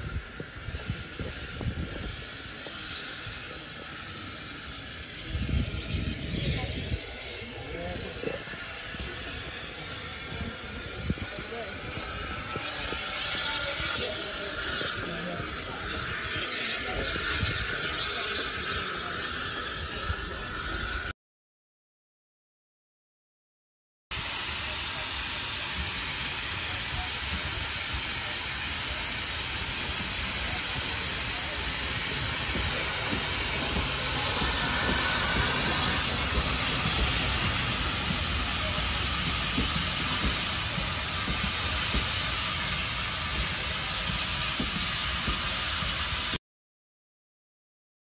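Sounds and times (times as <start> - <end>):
steam locomotive hissing: 0.0 - 21.1, 24.1 - 46.4
train rumble: 0.0 - 21.1, 24.2 - 46.4.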